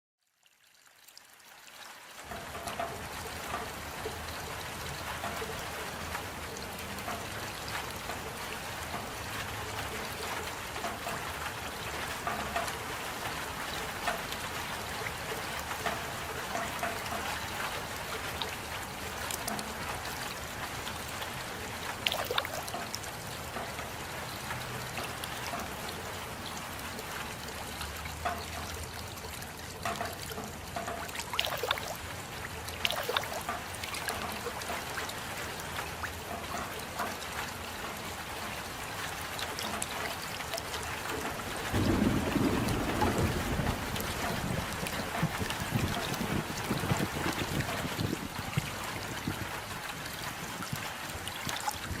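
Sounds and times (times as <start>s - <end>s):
steady rain falling: 0.2s - 52.0s
water drips: 0.3s - 52.0s.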